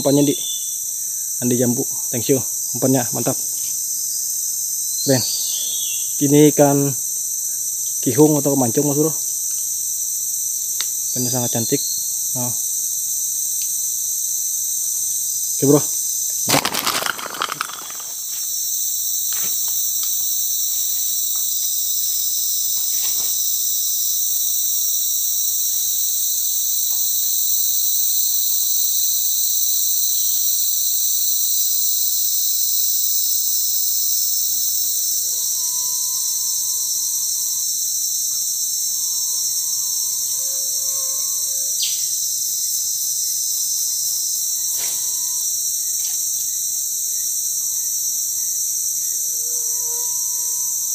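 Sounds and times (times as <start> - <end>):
insects buzzing chorus: 0.0 - 50.9.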